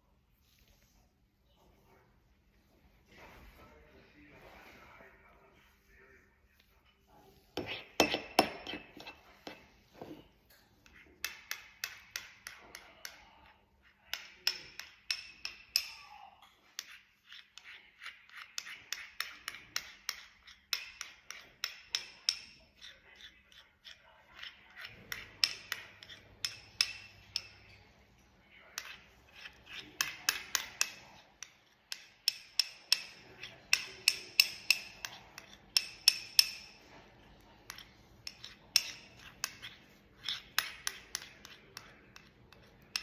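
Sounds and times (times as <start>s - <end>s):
utensil clinking against dish: 7.6s - 13.4s, 14.0s - 43.0s.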